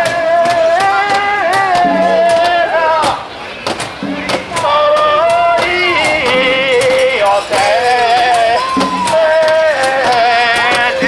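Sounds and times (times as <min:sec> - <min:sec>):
man singing long held notes: 0:00.0 - 0:03.2, 0:04.4 - 0:11.0
sharp clacks: 0:00.0 - 0:11.0.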